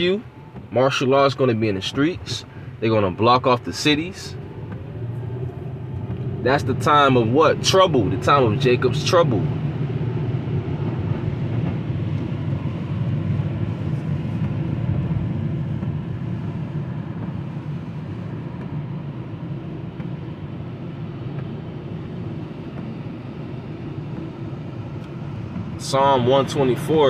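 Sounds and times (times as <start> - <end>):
vehicle rumble: 0.0 - 27.0.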